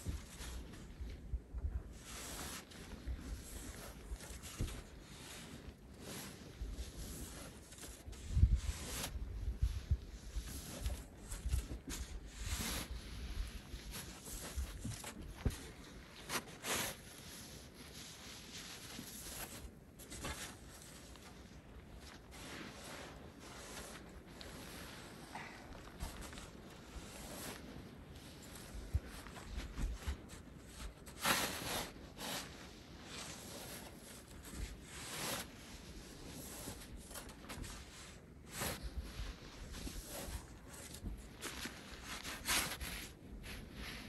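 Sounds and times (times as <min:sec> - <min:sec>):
shovel cutting packed snow: 0:01.9 - 0:21.4, 0:22.2 - 0:44.0
snow blocks sliding down roof: 0:01.9 - 0:44.0.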